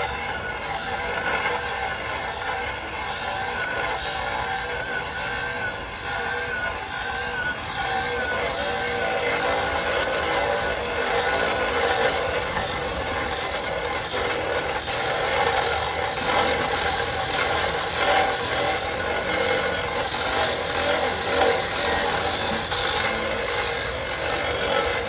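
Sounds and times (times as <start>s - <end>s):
power saw cutting steel: 0.0s - 25.0s.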